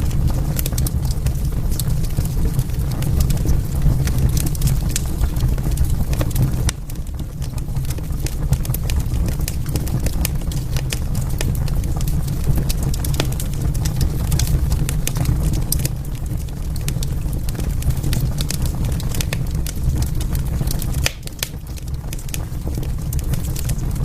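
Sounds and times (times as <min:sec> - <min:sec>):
logs crackling and popping: 0:00.0 - 0:24.0
low rumble of flames: 0:00.0 - 0:24.0.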